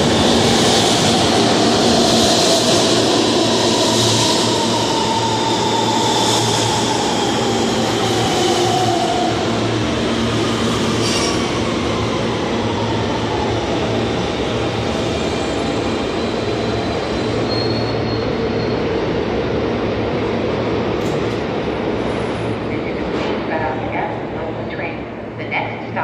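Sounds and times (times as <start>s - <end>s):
subway train wheel and rail noise: 0.0s - 26.0s.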